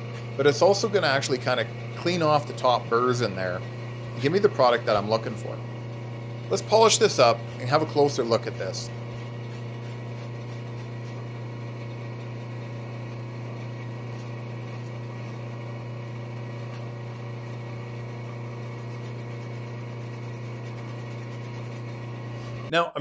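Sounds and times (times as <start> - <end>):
abrasive pad polishing spinning shaft: 0.0 - 22.7
lathe humming: 0.0 - 22.7.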